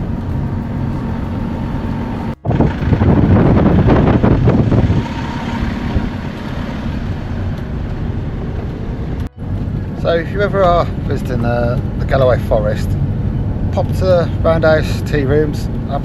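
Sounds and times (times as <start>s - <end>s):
engine and road noise in cab: 0.0s - 16.0s.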